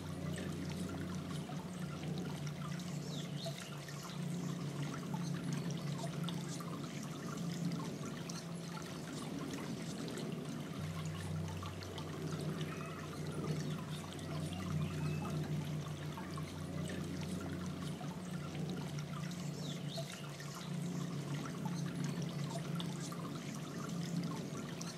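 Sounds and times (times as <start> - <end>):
steady low hum: 0.0 - 24.9
water trickling in a fountain: 0.0 - 24.9.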